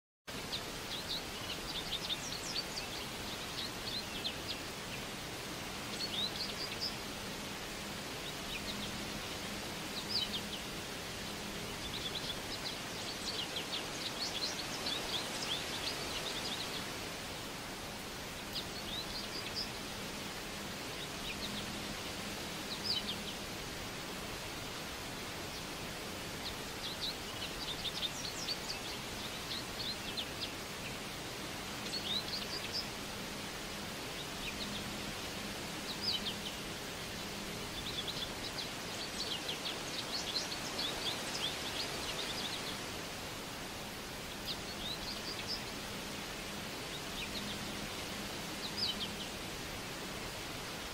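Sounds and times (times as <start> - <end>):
outdoor background hiss: 0.3 - 50.9
songbirds chirping: 0.3 - 50.9.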